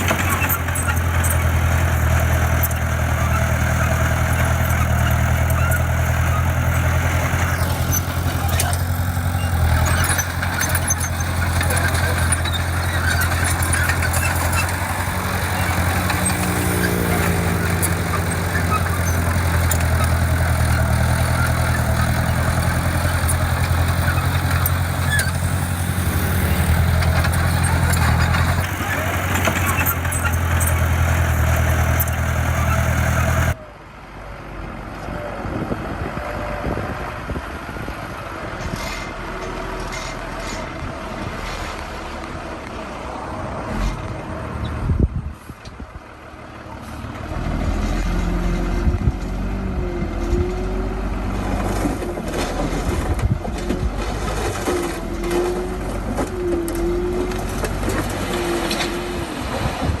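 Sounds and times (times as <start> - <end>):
diesel engines running: 0.0 - 60.0.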